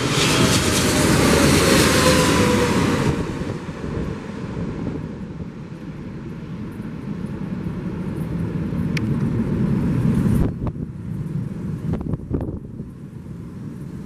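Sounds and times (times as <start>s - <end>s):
jet engine rumble overhead: 0.0s - 14.0s.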